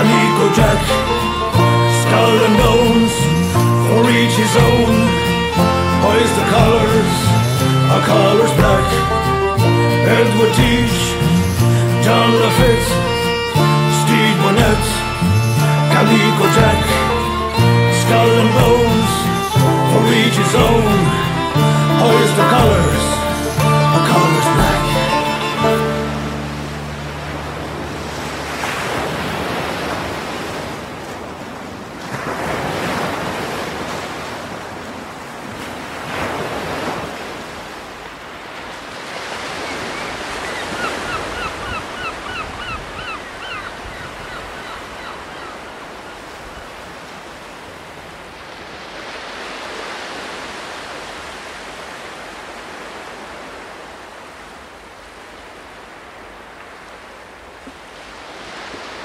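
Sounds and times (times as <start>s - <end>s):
ocean waves washing: 0.0s - 59.0s.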